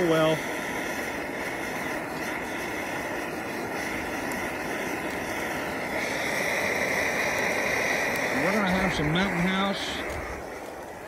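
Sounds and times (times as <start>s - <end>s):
camping stove burning: 0.0s - 11.0s.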